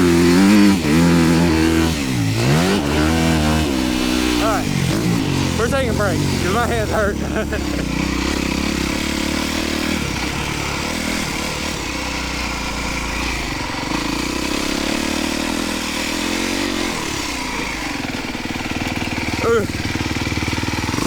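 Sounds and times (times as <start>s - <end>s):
dirt bike engine idling: 0.0s - 21.0s.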